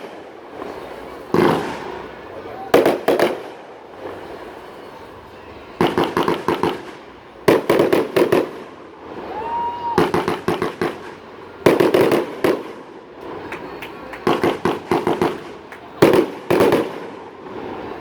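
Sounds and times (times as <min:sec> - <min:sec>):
firework whistling: 0:00.0 - 0:18.0
fireworks bangs: 0:00.0 - 0:18.0.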